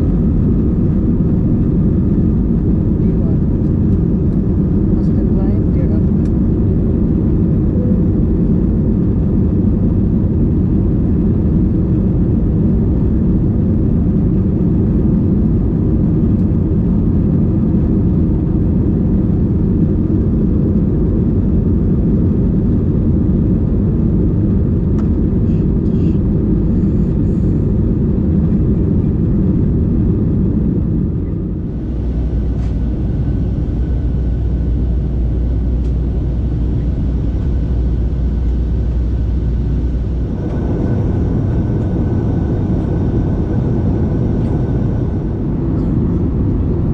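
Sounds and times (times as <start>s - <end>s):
airplane cabin engine noise: 0.0s - 46.9s
deep low hum with hiss: 0.0s - 46.9s.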